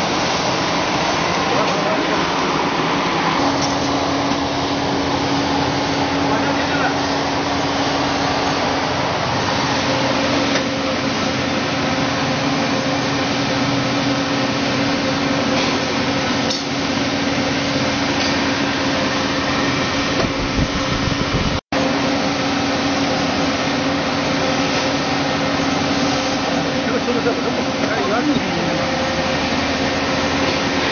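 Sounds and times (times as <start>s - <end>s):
blowers and conveyor whirring: 0.0s - 30.9s.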